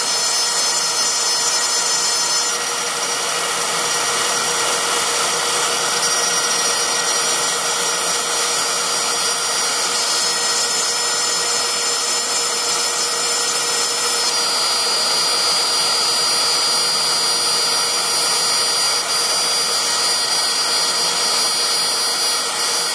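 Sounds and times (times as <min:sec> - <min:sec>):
end mill cutting metal: 0:00.0 - 0:22.9
router spindle high whine: 0:00.0 - 0:22.9.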